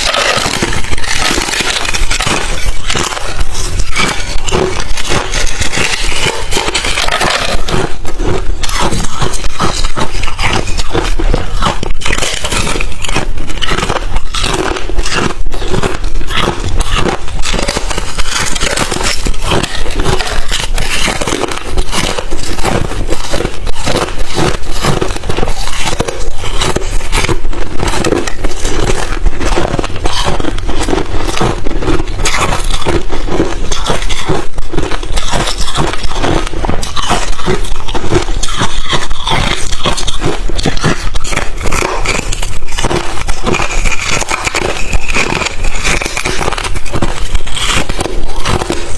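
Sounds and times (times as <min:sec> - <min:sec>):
ice chips being chewed: 0:00.0 - 0:48.9.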